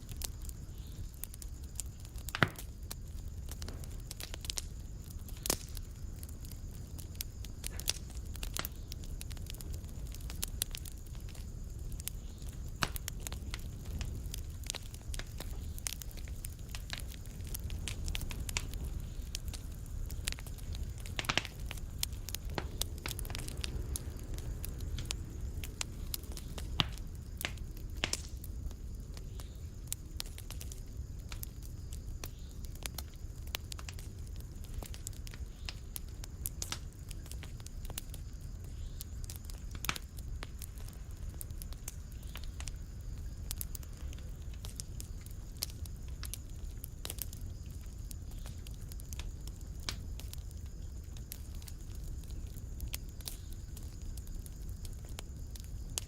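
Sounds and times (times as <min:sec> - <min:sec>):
fire crackling and popping: 0:00.0 - 0:56.0
loud fire snap: 0:00.0 - 0:56.0
low rumble of fire: 0:00.0 - 0:56.0.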